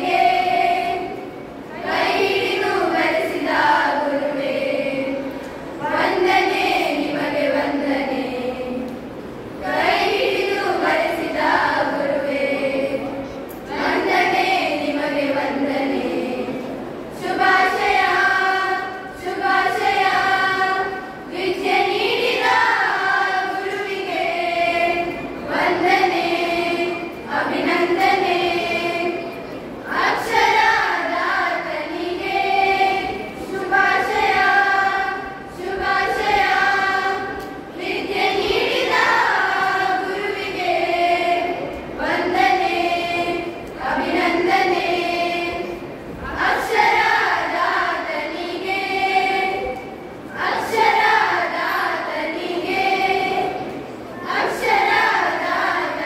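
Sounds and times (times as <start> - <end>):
children singing together: 0.0 - 56.0.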